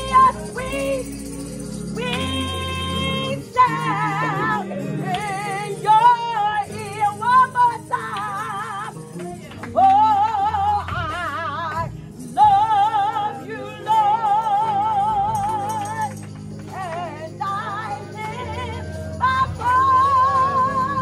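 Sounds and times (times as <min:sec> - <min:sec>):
woman singing gospel: 0:00.0 - 0:21.0.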